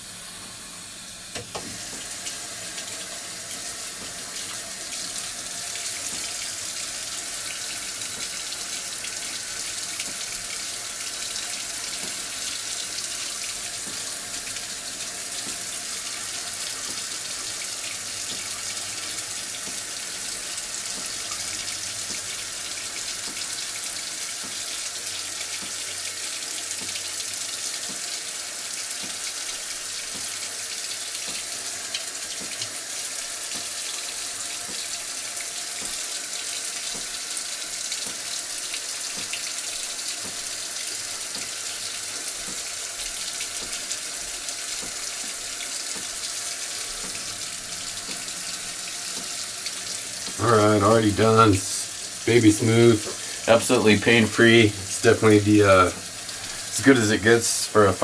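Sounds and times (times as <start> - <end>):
faucet water running into sink: 0.0 - 58.0.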